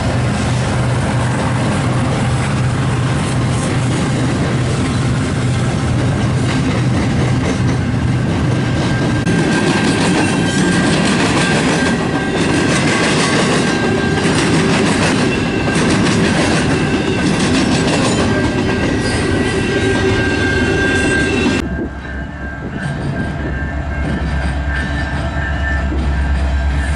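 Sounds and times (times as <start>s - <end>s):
freight train rumbling: 0.0s - 26.9s.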